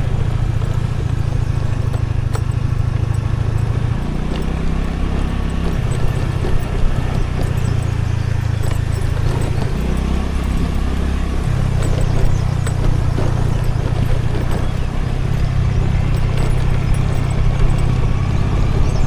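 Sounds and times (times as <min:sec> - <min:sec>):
scooter engine running: 0:00.0 - 0:19.0
wind and road noise: 0:00.0 - 0:19.0.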